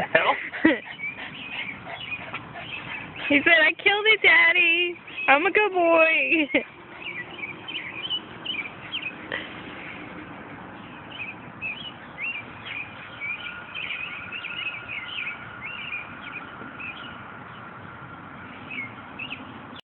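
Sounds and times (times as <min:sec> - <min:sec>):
small birds chirping: 0:00.6 - 0:19.8.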